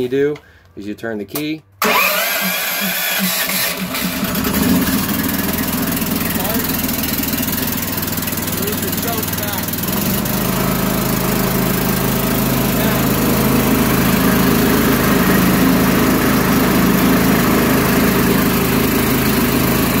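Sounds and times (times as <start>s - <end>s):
small gas engine running: 1.8s - 20.0s.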